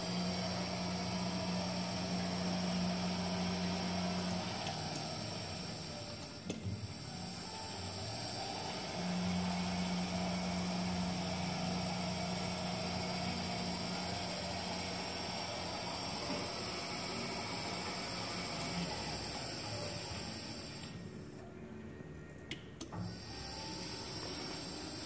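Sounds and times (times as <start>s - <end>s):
electric motors humming: 0.0s - 25.0s.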